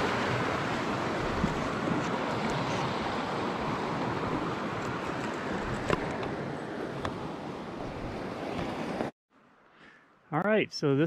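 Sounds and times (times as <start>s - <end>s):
wind on microphone: 0.0s - 9.1s.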